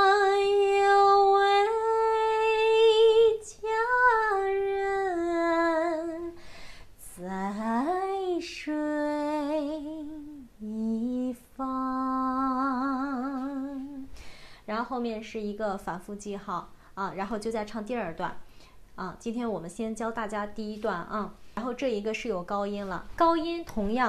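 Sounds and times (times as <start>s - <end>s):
woman singing unaccompanied: 0.0s - 6.4s, 7.0s - 18.3s, 19.0s - 24.0s.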